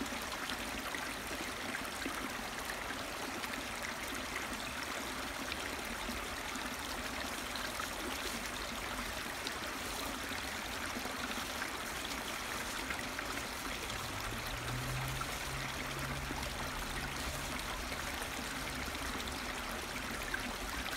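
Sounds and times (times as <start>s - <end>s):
stream water rushing: 0.0s - 20.9s.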